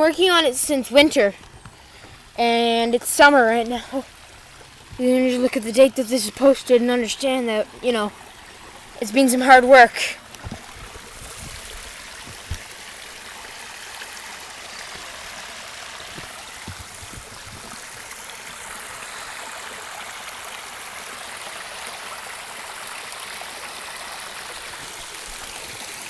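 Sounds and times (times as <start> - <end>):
pond waterfall splashing: 0.0 - 26.0.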